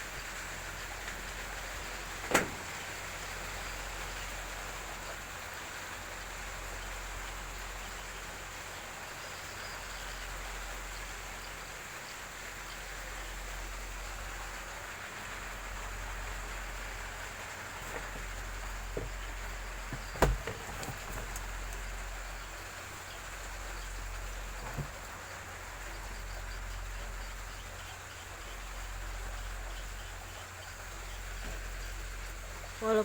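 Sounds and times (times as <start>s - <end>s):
rain falling steadily: 0.0s - 33.0s.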